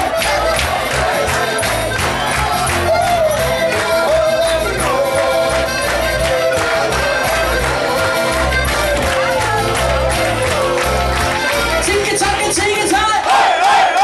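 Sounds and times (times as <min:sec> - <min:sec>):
bass: 0:00.0 - 0:13.1.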